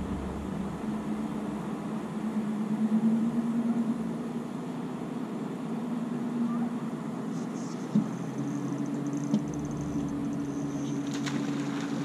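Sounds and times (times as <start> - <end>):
boat motor humming: 0.0 - 12.0
faint high whine: 0.0 - 12.0.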